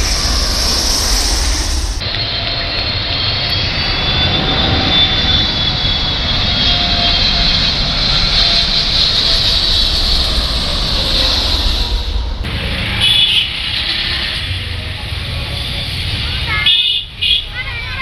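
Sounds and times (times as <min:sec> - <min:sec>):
jet airliner passing: 0:00.0 - 0:18.0.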